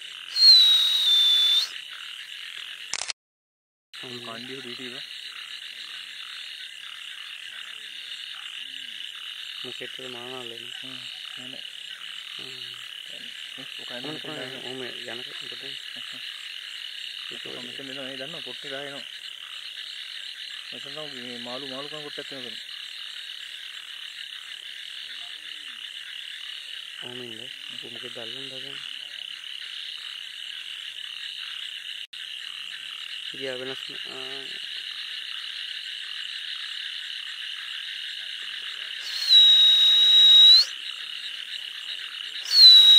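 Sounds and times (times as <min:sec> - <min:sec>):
high-pitched frog chorus: 0:00.0 - 0:03.0, 0:04.0 - 0:42.9
deep warbling frog croaks: 0:04.0 - 0:42.5.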